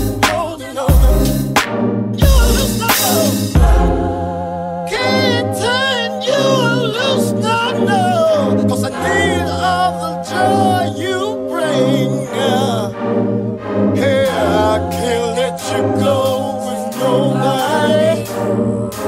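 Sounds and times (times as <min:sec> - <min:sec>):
layered singing voices: 0:02.2 - 0:19.0.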